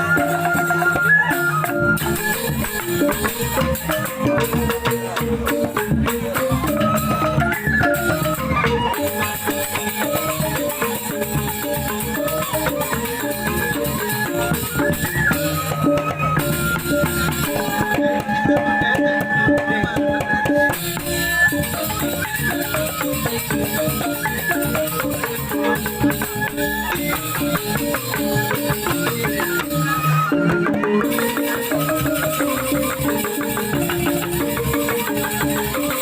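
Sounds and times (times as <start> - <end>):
bamboo gamelan playing: 0.0 - 36.0
drums: 0.0 - 36.0.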